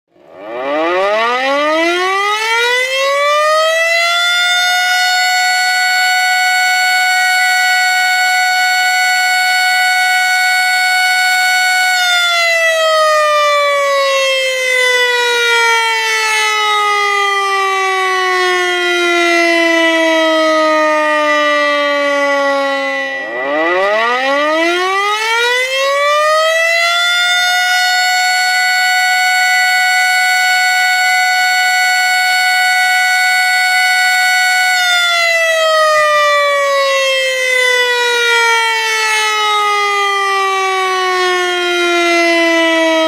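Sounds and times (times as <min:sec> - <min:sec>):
siren wailing: 0:00.1 - 0:43.0.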